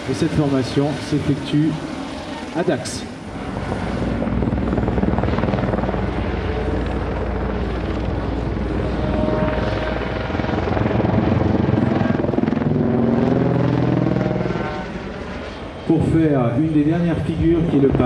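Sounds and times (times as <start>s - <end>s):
helicopter engine whine: 0.0s - 18.0s
helicopter rotor beat: 0.0s - 18.0s.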